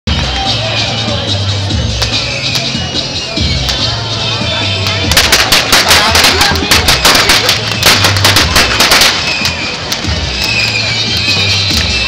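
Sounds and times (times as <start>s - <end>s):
firecrackers going off: 0.1s - 12.0s.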